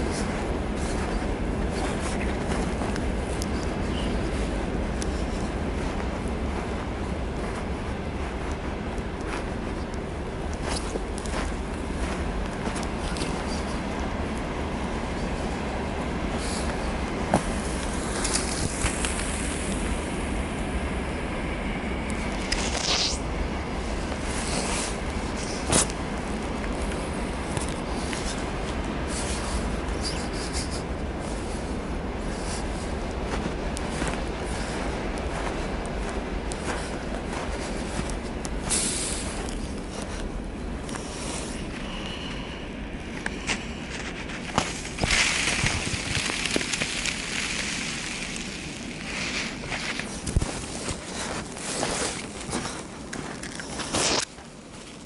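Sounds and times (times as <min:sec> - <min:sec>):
footsteps crunching in snow: 0:00.0 - 0:55.0
rustling hiss: 0:00.0 - 0:55.0
steady low rumble: 0:00.0 - 0:55.0.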